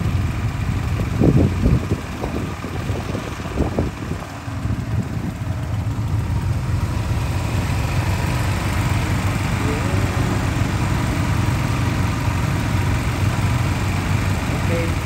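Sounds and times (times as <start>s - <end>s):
atv engine rumbling: 0.0s - 15.0s.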